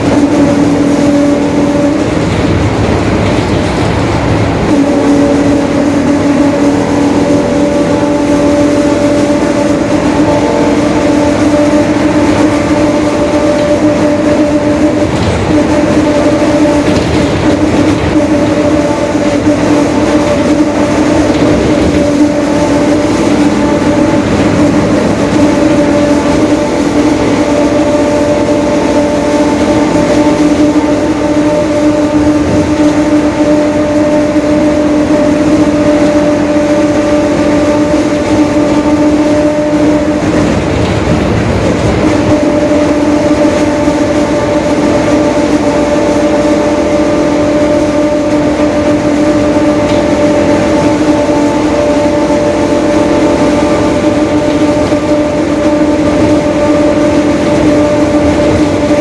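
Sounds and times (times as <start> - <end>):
diesel bus engine and road noise: 0.0 - 59.0
differential whine: 0.0 - 59.0.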